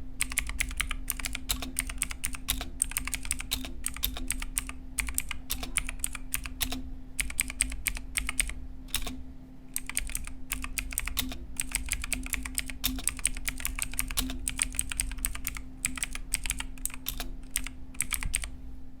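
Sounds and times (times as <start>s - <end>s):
mechanical keyboard key clicks: 0.2s - 9.2s, 9.8s - 18.5s.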